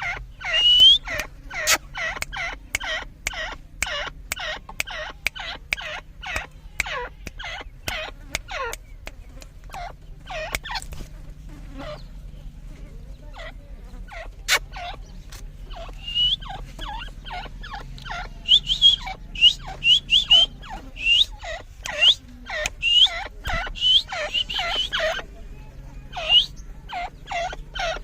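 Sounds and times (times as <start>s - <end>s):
francolins calling: 0.0s - 28.0s.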